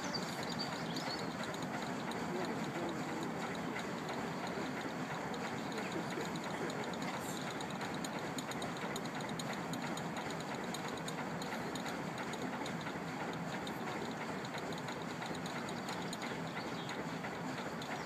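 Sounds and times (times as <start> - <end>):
boat engine and paddlewheel churning: 0.0 - 18.0
paddles ticking: 0.0 - 18.0.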